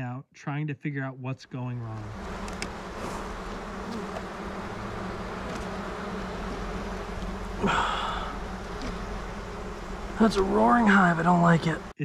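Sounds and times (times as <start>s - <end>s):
honeybees buzzing: 1.7s - 12.0s
higher buzzing tone: 1.8s - 11.9s.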